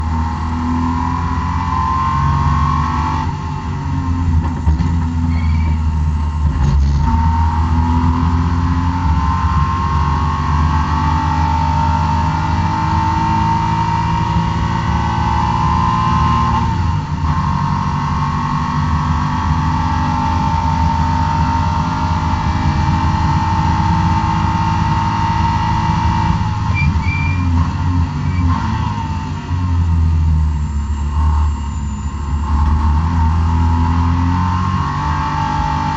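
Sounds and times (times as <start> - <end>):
car engine revving: 0.0 - 5.2, 5.8 - 35.9.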